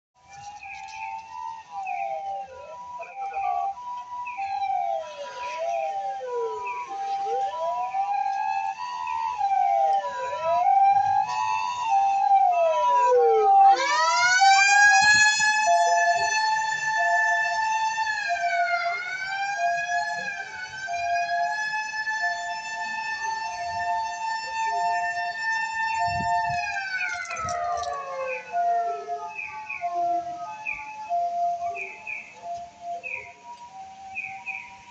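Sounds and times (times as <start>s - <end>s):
two-tone electronic siren: 0.2s - 34.9s
mechanical motor siren wail: 0.4s - 34.9s.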